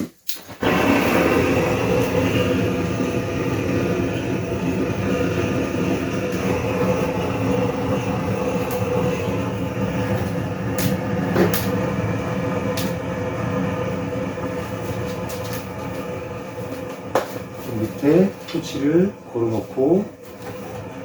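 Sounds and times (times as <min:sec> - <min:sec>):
low rumbling drone: 0:00.6 - 0:21.0.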